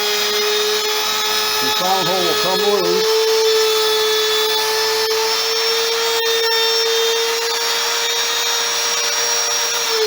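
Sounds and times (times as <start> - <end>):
router motor whining: 0.0 - 10.0.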